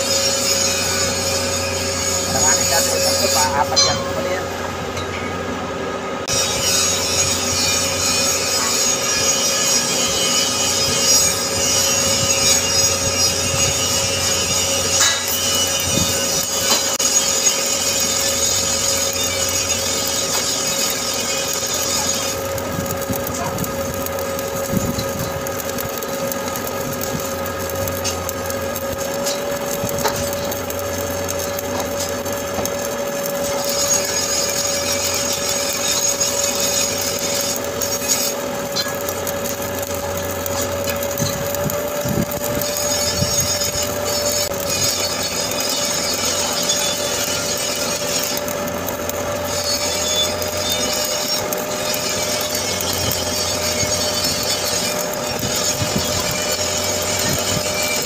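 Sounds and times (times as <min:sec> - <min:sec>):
welding arc crackling: 0:00.0 - 0:58.0.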